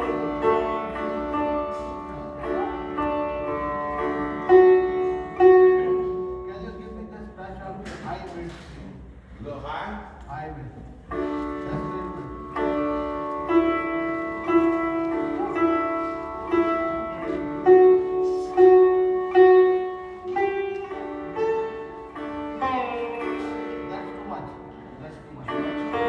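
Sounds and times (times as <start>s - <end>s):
sitar plucked notes: 0.0s - 7.4s, 11.1s - 26.0s
sitar string drone: 0.0s - 7.6s, 12.2s - 26.0s.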